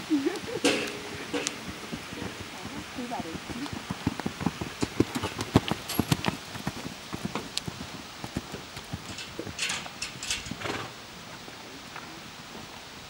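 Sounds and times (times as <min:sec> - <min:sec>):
hoofbeats on sand: 0:00.1 - 0:10.9.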